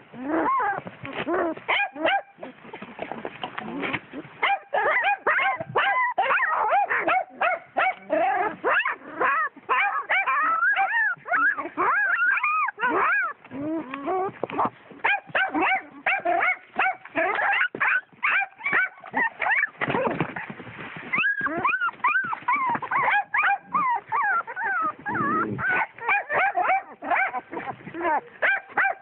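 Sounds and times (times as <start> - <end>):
puppies whining and yelping: 0.0 - 29.0.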